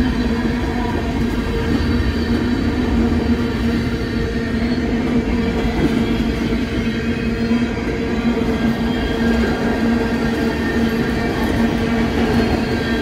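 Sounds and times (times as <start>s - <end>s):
train rolling by: 0.0s - 13.0s.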